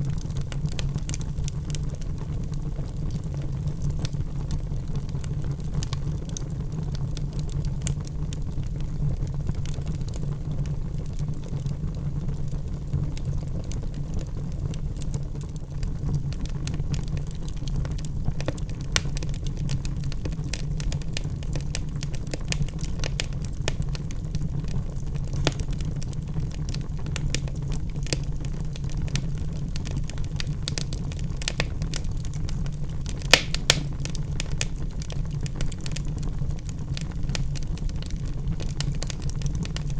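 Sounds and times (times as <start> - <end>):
logs burning and crackling: 0.0 - 39.9.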